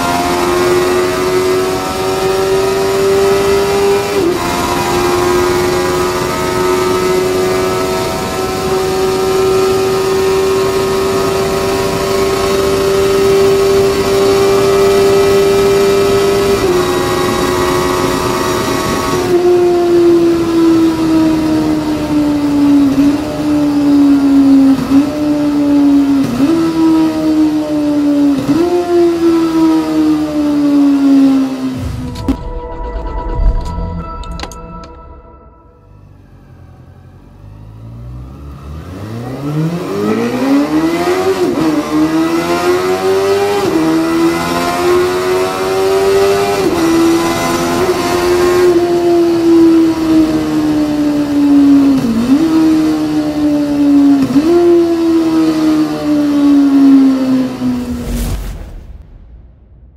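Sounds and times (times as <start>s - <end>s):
engine revs jumping on downshifts: 0.0s - 31.8s, 37.6s - 58.2s
motorcycle engine at high revs: 0.0s - 32.0s, 38.0s - 58.0s.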